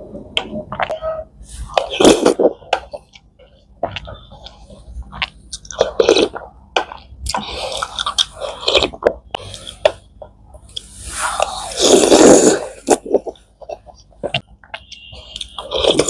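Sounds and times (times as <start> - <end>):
chewing and wet mouth sounds: 1.6 - 16.0
mouth smacks and clicks: 1.7 - 10.0, 10.7 - 16.0.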